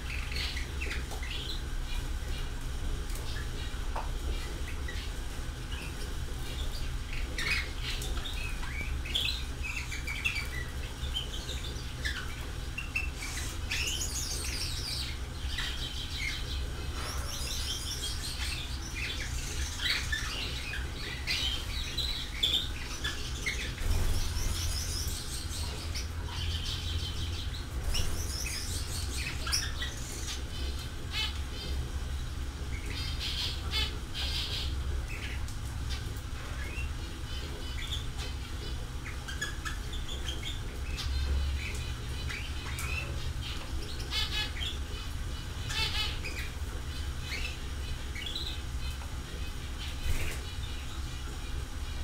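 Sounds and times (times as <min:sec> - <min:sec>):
small birds chirping: 0:00.0 - 0:52.0
steady low hum: 0:00.0 - 0:52.0.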